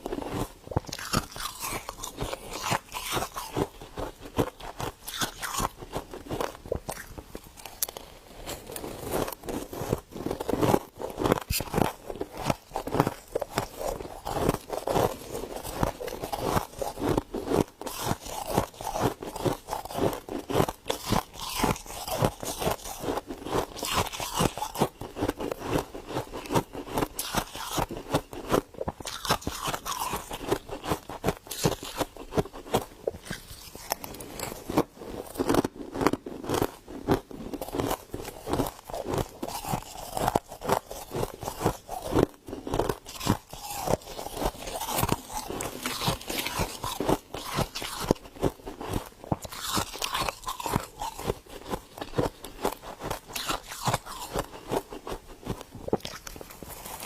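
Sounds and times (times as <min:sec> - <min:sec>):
chewing crisp frost: 0:00.0 - 0:57.0.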